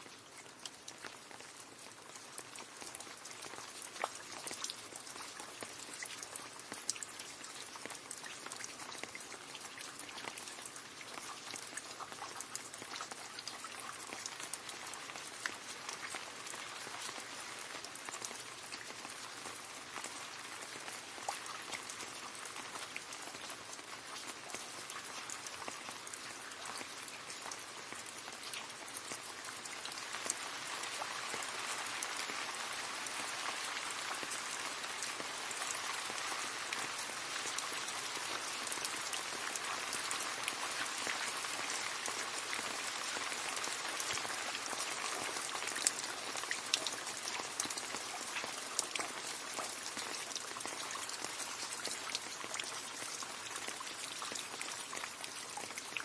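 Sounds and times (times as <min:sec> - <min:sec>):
rain splashing into a puddle: 0:00.0 - 0:56.0.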